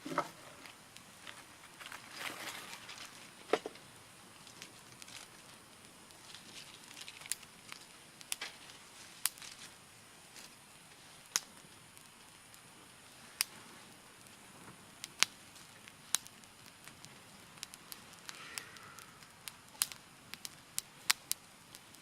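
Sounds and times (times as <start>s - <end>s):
faint steady hiss: 0.0s - 22.0s
sharp pops of fire: 0.0s - 22.0s
wood fire crackling: 0.0s - 22.0s.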